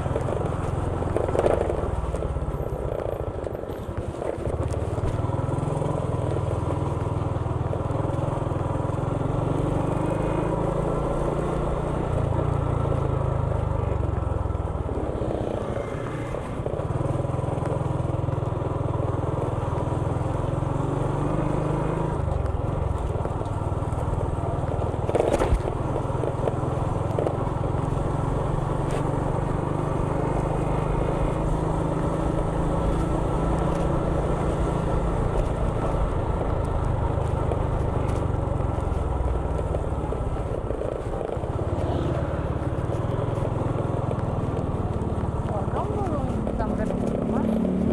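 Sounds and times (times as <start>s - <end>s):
motorcycle engine running: 0.0s - 47.9s
road noise: 0.0s - 47.9s.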